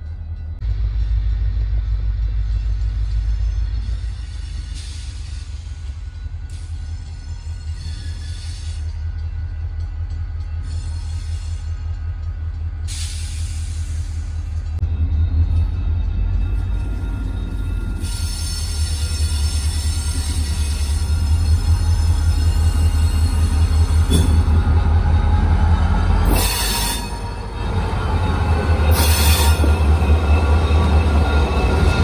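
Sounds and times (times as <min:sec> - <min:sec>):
locomotive engine hum: 0:00.0 - 0:32.0
steel wheels on rails: 0:00.0 - 0:32.0.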